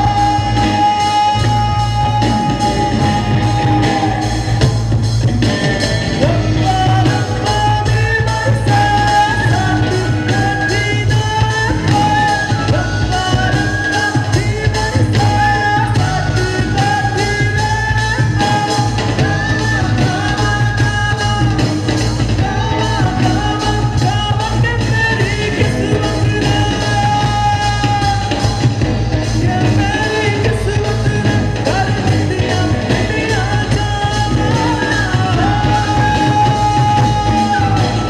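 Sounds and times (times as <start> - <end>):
person singing: 0.0 - 5.0, 5.8 - 38.0
drum beat: 0.0 - 38.0
heavy bass: 0.0 - 38.0.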